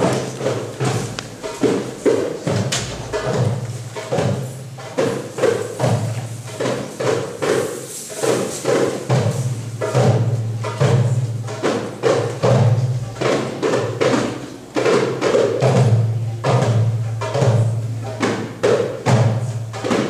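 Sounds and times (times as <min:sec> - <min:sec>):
hand percussion steady beat: 0:00.0 - 0:20.0.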